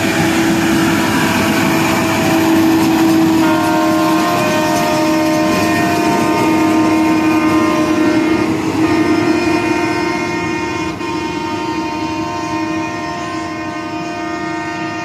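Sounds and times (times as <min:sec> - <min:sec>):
machine engine and wheel noise: 0:00.0 - 0:12.7
air horn blast: 0:00.0 - 0:15.0.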